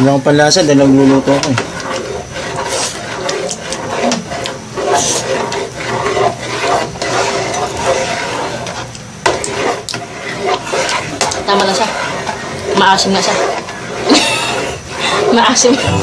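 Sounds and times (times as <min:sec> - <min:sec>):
metal spoon stirring thick sauce: 0:00.0 - 0:16.0
spoon scraping and clinking on pot: 0:01.1 - 0:16.0.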